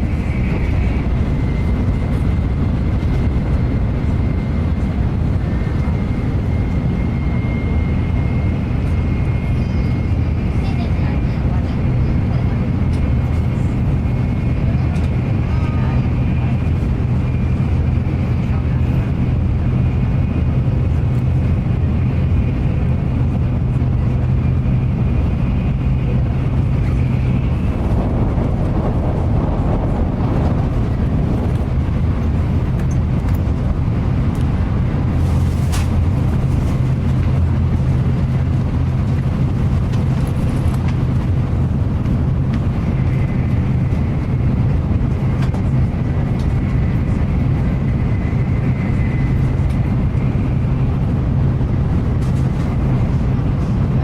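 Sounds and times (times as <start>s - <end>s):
high-speed train rumble: 0.0s - 54.0s.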